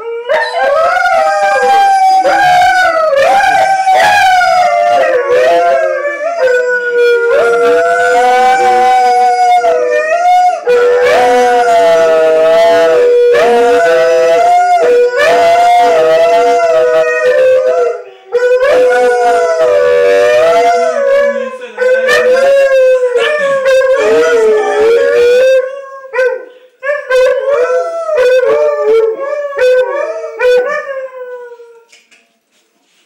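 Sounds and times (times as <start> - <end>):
dogs howling: 0.0 - 31.9.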